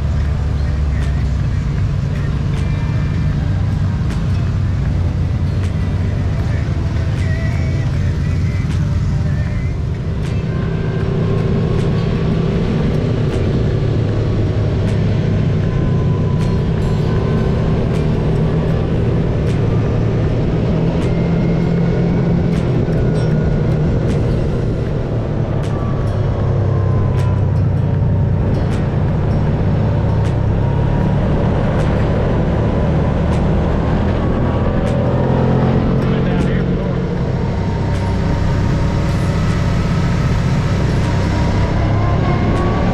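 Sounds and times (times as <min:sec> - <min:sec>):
utility vehicle engine running: 0:00.0 - 0:42.9
wind and ground noise: 0:00.0 - 0:42.9.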